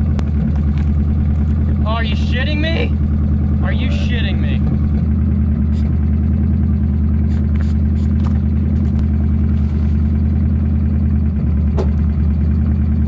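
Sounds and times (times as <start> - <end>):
tire inflator buzzing: 0.0 - 12.8.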